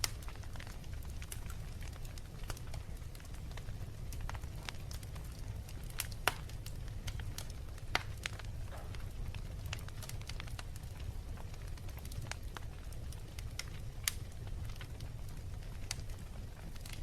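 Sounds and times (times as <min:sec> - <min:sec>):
low rumble of flames: 0:00.0 - 0:17.0
wood fire crackles and pops: 0:00.0 - 0:17.0.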